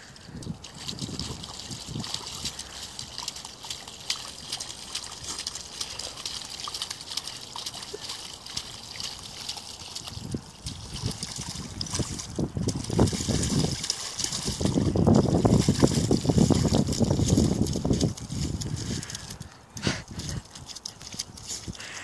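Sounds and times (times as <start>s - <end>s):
dog digging in muddy water: 0.0s - 22.0s.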